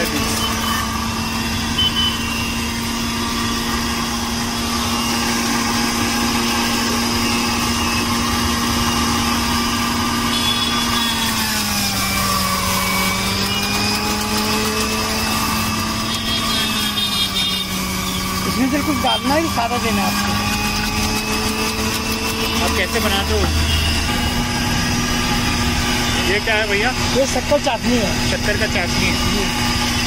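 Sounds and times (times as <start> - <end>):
electric juicer motor hum: 0.0 - 30.0.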